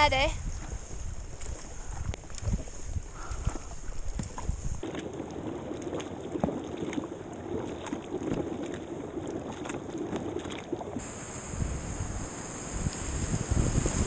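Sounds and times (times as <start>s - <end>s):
paddle strokes splashing: 0.5s - 14.0s
rushing water: 0.9s - 14.0s
water dripping off paddle: 1.4s - 14.0s.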